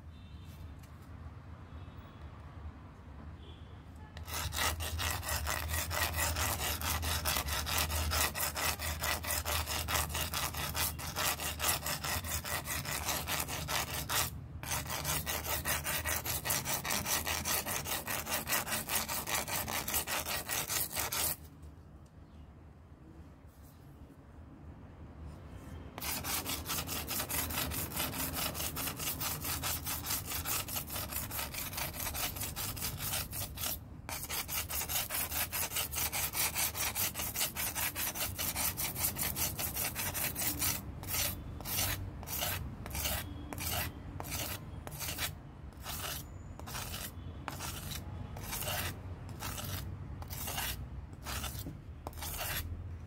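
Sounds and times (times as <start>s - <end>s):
knife scraping on abrasive sharpener: 4.2s - 21.4s, 26.0s - 52.7s.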